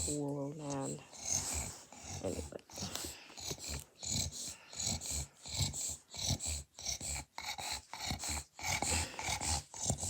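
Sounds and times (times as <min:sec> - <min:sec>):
small dog snoring: 0:00.0 - 0:10.0.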